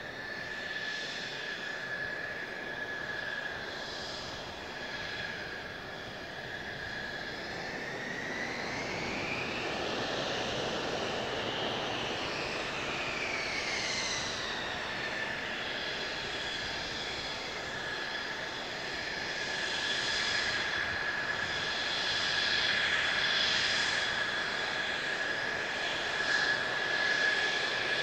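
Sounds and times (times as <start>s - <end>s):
jet engine whine: 0.0s - 28.0s.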